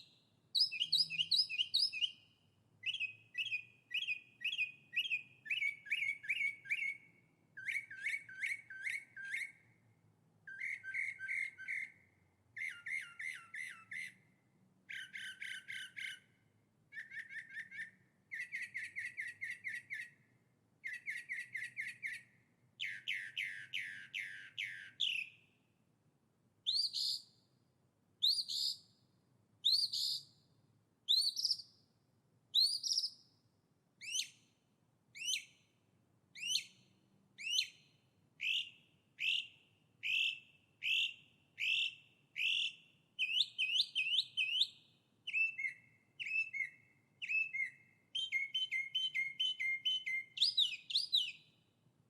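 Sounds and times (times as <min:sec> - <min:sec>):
songbird singing: 0:00.0 - 0:09.8, 0:10.5 - 0:25.7, 0:26.6 - 0:27.5, 0:28.2 - 0:29.0, 0:29.6 - 0:30.5, 0:31.1 - 0:31.9, 0:32.5 - 0:33.4, 0:34.0 - 0:35.7, 0:36.3 - 0:51.6.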